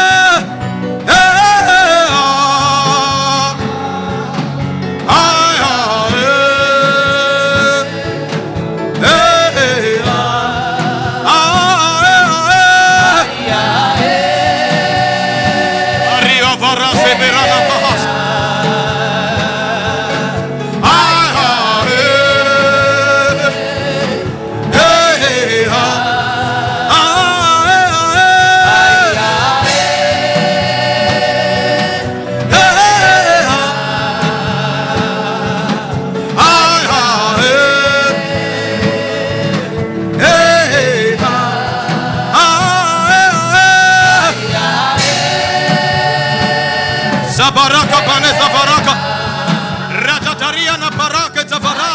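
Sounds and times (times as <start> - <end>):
band accompaniment: 0.0 - 51.9
gospel chant singing: 0.0 - 51.9.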